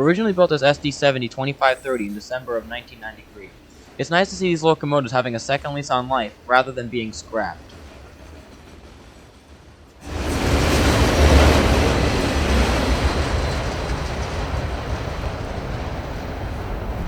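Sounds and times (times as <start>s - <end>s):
passing train rumble and rail noise: 0.0s - 17.0s.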